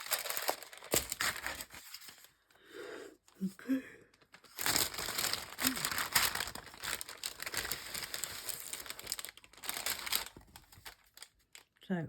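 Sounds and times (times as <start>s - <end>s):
packaging crinkling and rustling: 0.0s - 2.4s, 4.1s - 11.8s.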